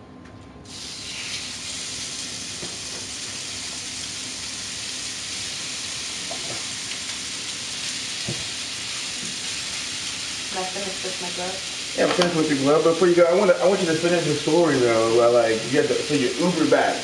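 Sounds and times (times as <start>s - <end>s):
chicken sizzling in frying pan: 0.7s - 17.0s.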